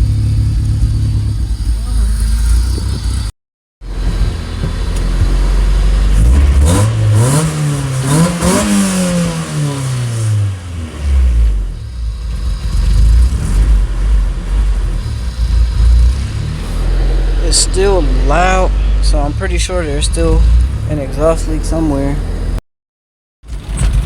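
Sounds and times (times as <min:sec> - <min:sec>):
car engine idling and revving: 0:00.0 - 0:22.6, 0:23.4 - 0:24.0.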